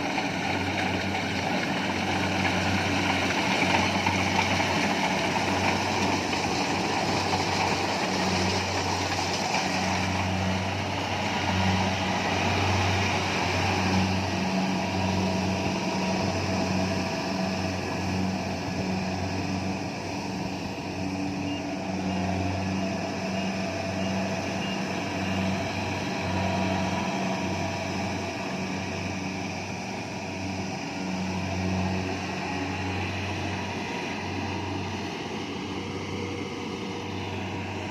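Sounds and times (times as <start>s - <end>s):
combine harvester running: 0.0s - 37.9s.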